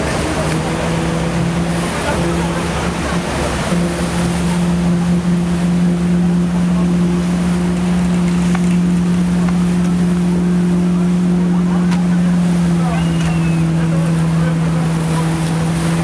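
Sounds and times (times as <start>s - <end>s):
motorboat engine running: 0.0s - 16.0s
water noise: 0.0s - 16.0s
wind: 0.0s - 16.0s.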